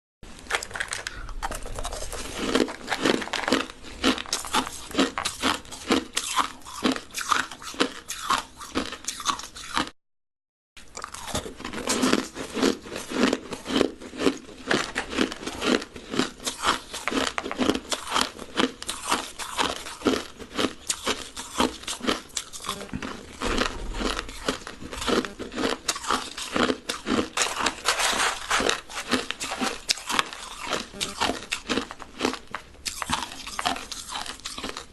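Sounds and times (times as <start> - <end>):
chewing crushed ice: 0.4 - 10.0, 10.8 - 34.9.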